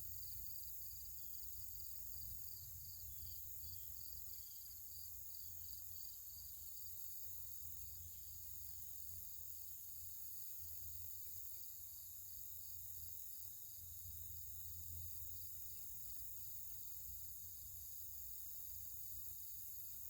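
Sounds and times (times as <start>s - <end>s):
pulsed cricket chirp: 0.0s - 20.0s.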